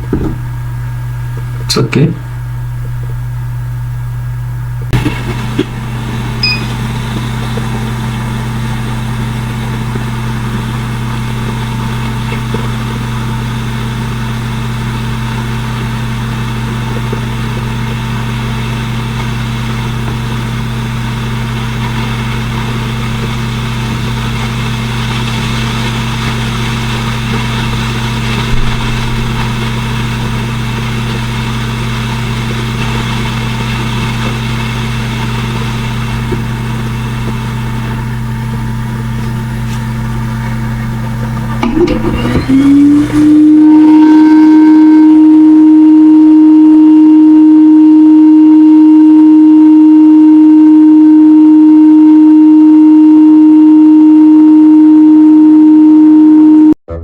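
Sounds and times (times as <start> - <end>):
fan hum with blowing air: 0.0 - 56.7
higher hum: 0.0 - 57.0.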